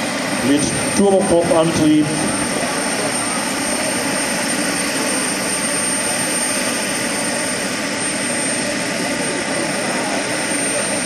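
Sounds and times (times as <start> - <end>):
high turbine whine: 0.0 - 11.0
model airplane turboprop running: 0.0 - 11.0.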